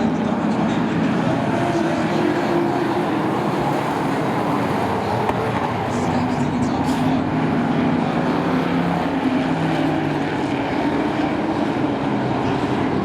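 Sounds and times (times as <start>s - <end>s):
race truck engines: 0.0s - 13.0s.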